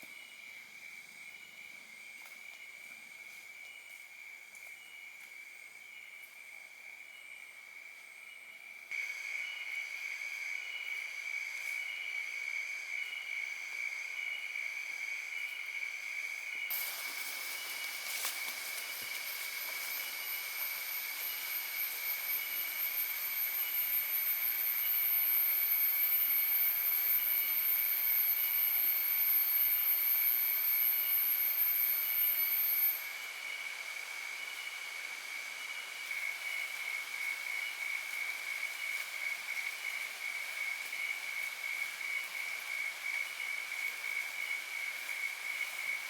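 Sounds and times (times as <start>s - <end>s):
high-pitched insect whine: 0.0s - 46.0s
insects trilling: 0.0s - 46.0s.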